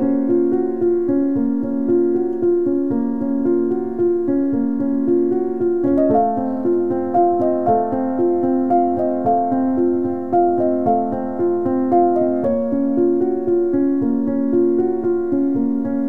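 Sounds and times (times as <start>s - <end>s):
keyboard melody over chords: 0.0s - 16.0s.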